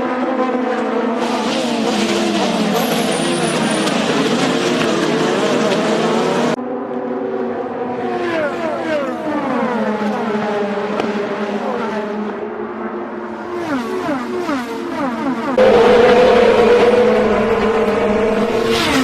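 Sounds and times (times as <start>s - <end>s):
race car engines screaming past: 0.7s - 6.6s, 7.9s - 19.0s.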